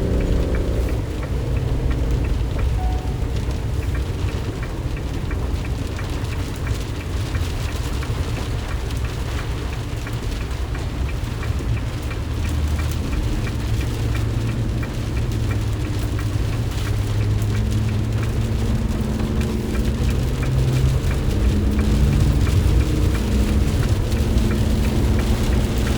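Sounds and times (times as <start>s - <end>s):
engine and tyre rumble: 0.0s - 25.9s
heavy rain on vehicle: 0.0s - 25.9s
wet road noise: 0.0s - 25.9s.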